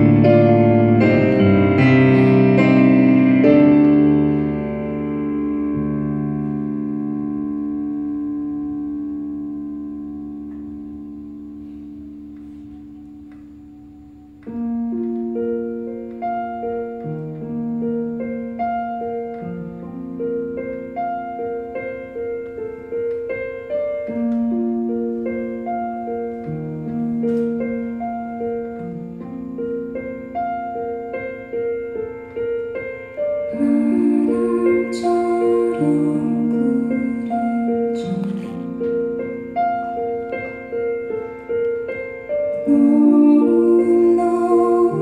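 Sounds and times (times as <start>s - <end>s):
piano broken-chord pattern: 0.0s - 45.0s
piano held chord: 0.0s - 45.0s.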